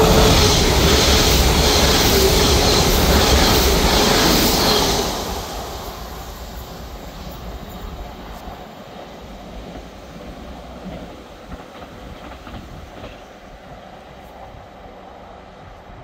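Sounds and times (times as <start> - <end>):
diesel train engine and wheel rumble: 0.0 - 16.0.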